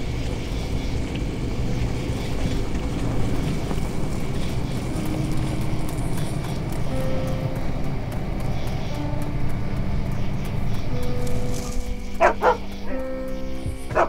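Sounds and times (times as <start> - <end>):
pickup truck driving on dirt road: 0.0 - 14.0.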